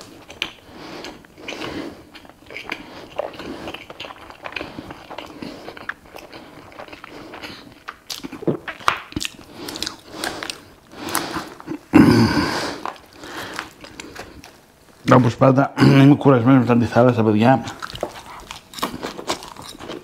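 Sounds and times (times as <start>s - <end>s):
person biting and chewing food: 0.0s - 14.7s, 17.7s - 20.0s.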